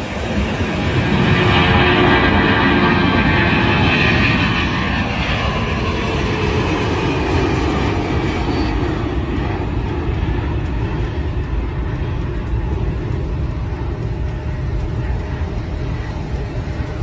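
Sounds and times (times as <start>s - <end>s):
jet airliner taking off: 0.0s - 17.0s.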